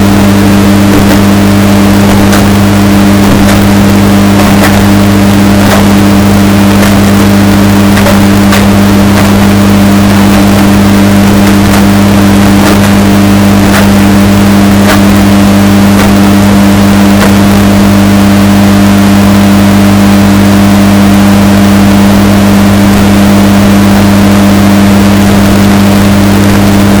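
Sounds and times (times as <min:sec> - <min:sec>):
distorted washing machine drone: 0:00.0 - 0:27.0.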